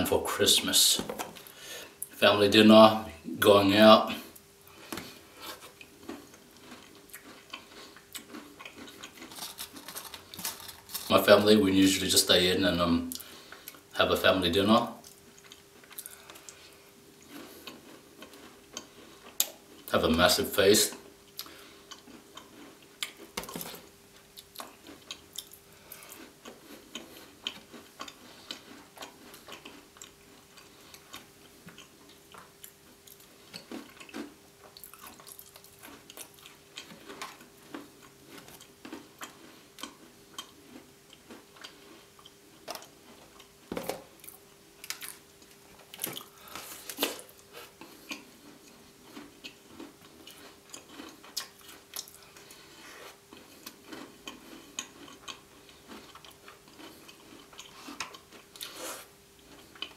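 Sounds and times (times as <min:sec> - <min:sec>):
faint steady hum: 0:00.0 - 0:59.9
person chewing and crunching: 0:04.1 - 0:12.2, 0:15.0 - 0:59.9.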